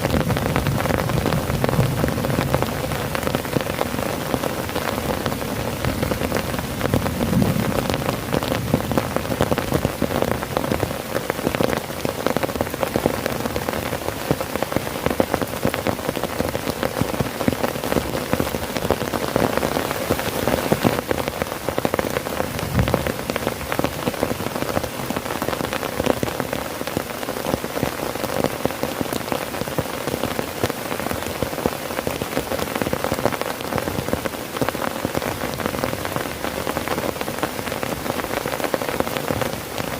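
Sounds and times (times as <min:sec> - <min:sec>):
heavy rain drumming on a tent: 0:00.0 - 0:39.9.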